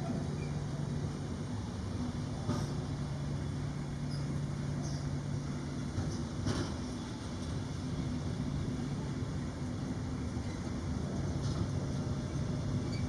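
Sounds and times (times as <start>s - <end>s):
train rumbling by: 0.0s - 13.0s.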